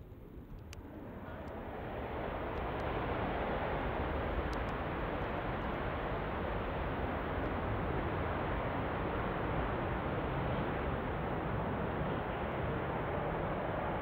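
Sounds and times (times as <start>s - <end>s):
fighter jet engines on afterburner: 0.0s - 14.0s.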